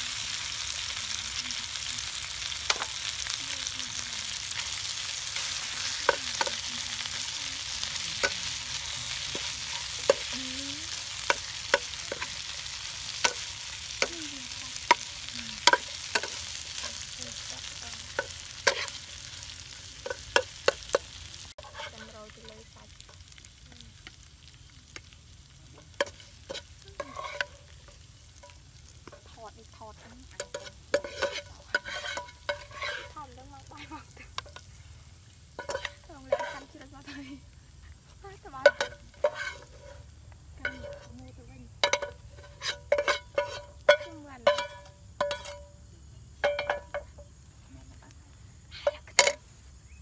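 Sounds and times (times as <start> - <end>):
meat sizzling in a pan: 0.0 - 50.0
metal spatula scraping a pan: 0.1 - 23.3, 25.8 - 34.7, 35.5 - 37.1, 38.6 - 41.2, 41.8 - 45.7.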